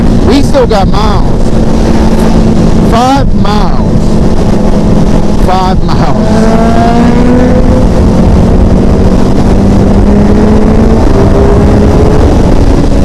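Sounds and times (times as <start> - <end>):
motorcycle engine running: 0.0 - 13.0
wind noise on microphone: 0.0 - 13.0.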